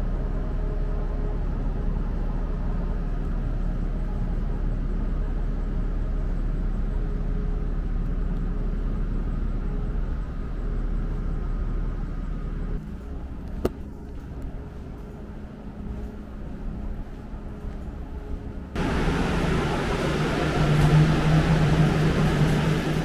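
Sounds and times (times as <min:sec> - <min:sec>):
faint steady hum: 0:00.0 - 0:23.0
ferry machinery drone: 0:00.0 - 0:23.0.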